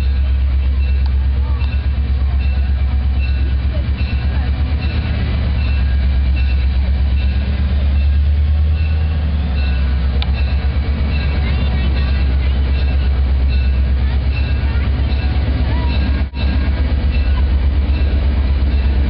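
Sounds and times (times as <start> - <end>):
diesel locomotive engine throbbing: 0.0 - 19.0.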